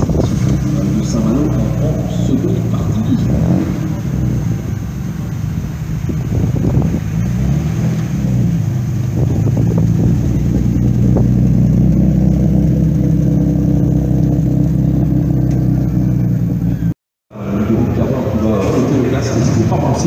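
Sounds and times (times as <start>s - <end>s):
car engine pulling away: 0.0s - 20.0s.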